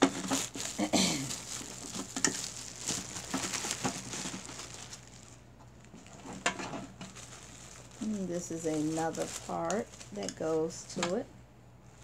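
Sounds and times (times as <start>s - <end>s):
plastic bag crinkling: 0.0s - 11.2s, 11.8s - 12.0s.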